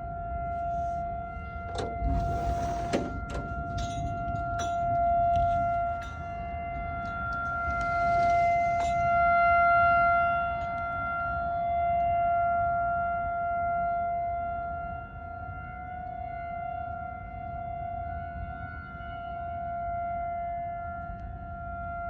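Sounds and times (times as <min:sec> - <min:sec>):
tornado warning siren: 0:00.0 - 0:22.0.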